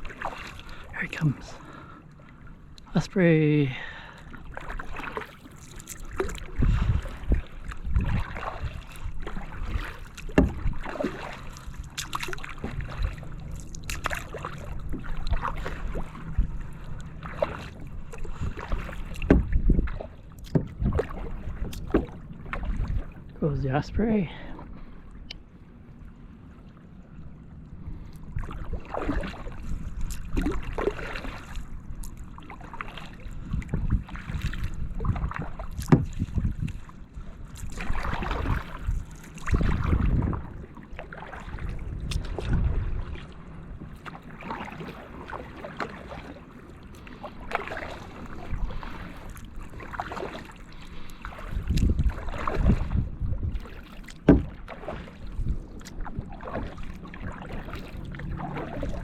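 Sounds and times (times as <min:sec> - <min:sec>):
paddle strokes splashing in water: 0:00.0 - 0:23.5, 0:27.7 - 0:59.0
wind rumble on microphone: 0:05.9 - 0:26.6, 0:27.2 - 0:45.4, 0:47.0 - 0:50.3, 0:51.0 - 0:59.0.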